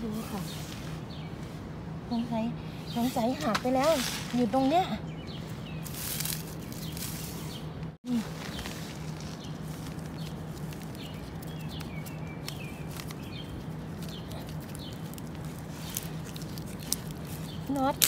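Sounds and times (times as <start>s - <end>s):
small birds chirping: 0.0s - 18.0s
dry bamboo leaves crackling: 3.0s - 18.0s.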